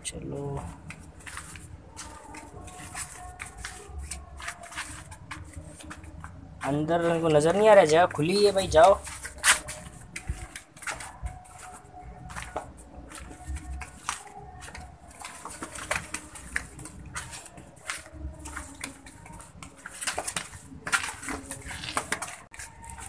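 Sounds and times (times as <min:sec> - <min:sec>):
footsteps and scuffs on concrete: 0:00.0 - 0:23.0.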